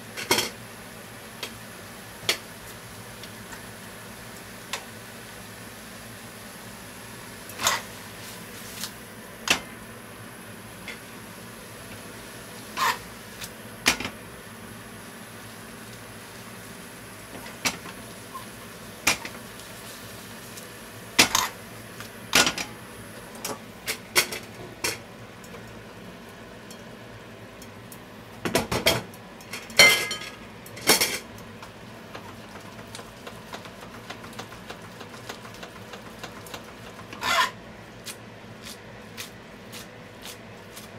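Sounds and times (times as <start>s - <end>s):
broth bubbling in a frying pan: 0.0s - 38.4s.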